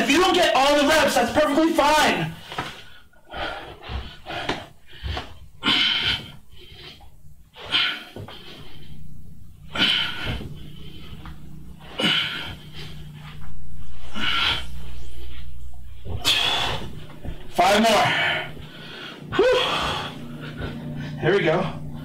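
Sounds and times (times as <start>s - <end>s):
man breathing hard: 2.4s - 21.2s.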